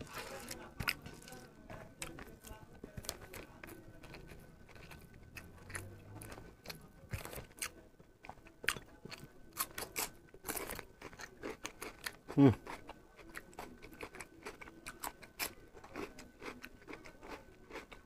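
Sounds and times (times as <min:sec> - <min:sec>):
chewing food: 0:00.0 - 0:18.0.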